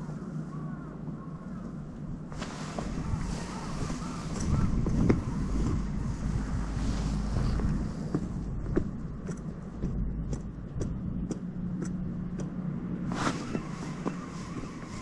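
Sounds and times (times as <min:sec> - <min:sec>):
rush of noise: 0:00.0 - 0:15.0
low rumble: 0:00.8 - 0:15.0.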